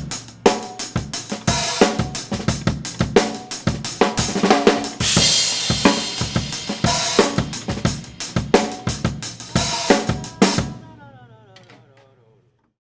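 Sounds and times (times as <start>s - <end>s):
acoustic drum kit played fast: 0.0s - 11.8s
cymbals ringing: 0.0s - 12.4s.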